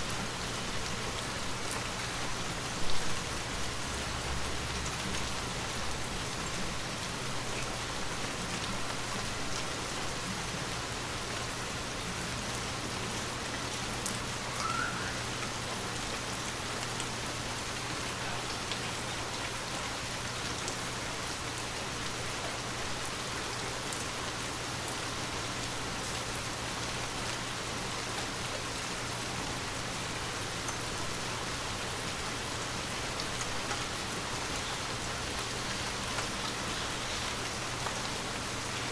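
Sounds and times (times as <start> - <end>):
raindrops ticking on surfaces: 0.0 - 38.9
steady rain falling: 0.0 - 38.9.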